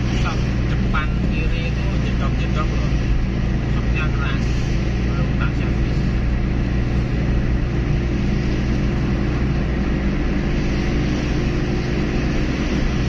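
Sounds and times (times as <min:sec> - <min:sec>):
car engine drone: 0:00.0 - 0:13.0
tyre and road noise: 0:00.0 - 0:13.0.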